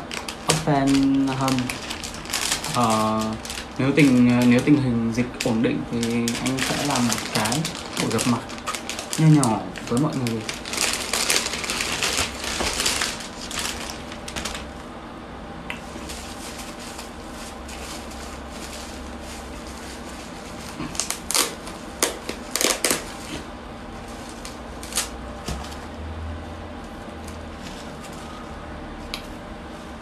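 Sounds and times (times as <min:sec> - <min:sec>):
plastic packaging crinkling: 0:00.0 - 0:14.8, 0:15.8 - 0:25.9.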